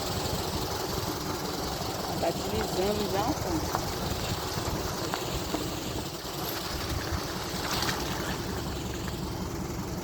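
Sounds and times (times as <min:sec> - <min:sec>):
engine running with fluttering rumble: 0:00.0 - 0:10.0.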